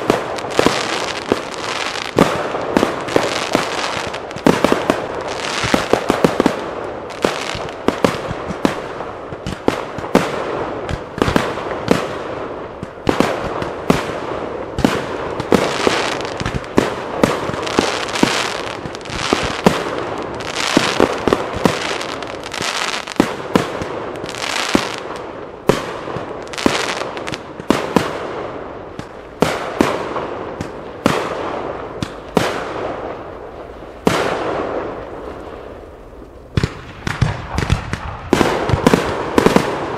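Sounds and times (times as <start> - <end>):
fireworks crackle: 0.0 - 39.9.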